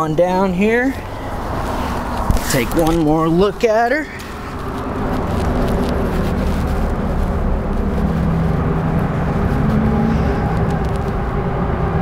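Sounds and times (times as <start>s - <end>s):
road traffic rumble: 0.0s - 12.0s
vehicle engines humming: 0.0s - 12.0s.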